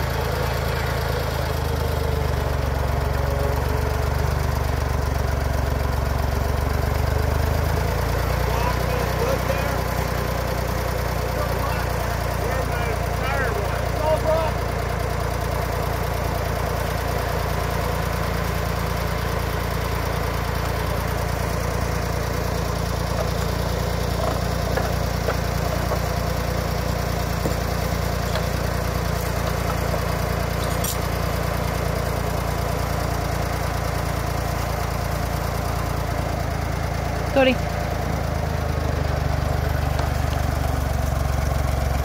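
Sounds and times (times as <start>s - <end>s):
tractor engine idling: 0.0s - 42.0s.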